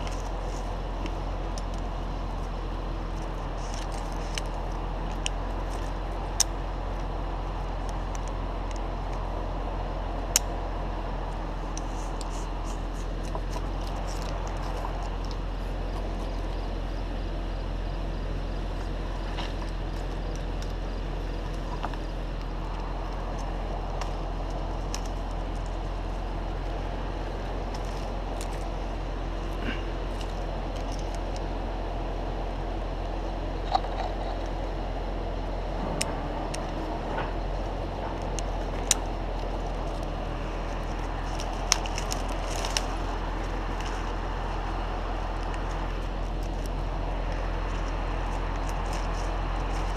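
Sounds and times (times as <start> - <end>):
crane engine droning: 0.0 - 49.9.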